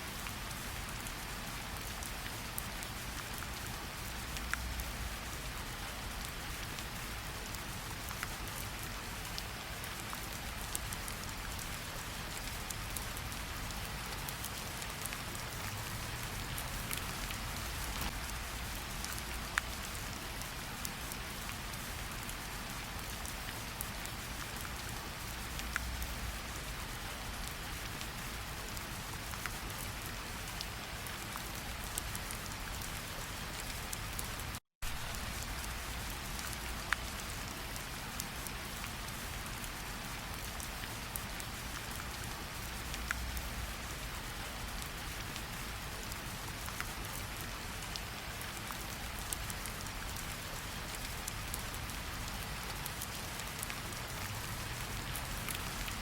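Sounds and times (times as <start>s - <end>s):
steady rainfall hiss: 0.0s - 56.0s
raindrops ticking nearby: 0.1s - 56.0s.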